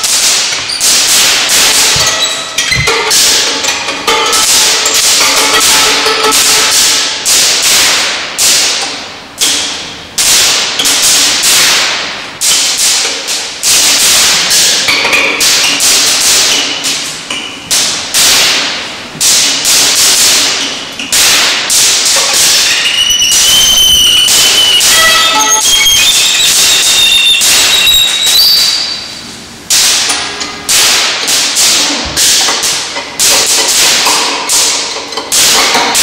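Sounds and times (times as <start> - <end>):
loud sharp cracks: 0.0 - 36.0.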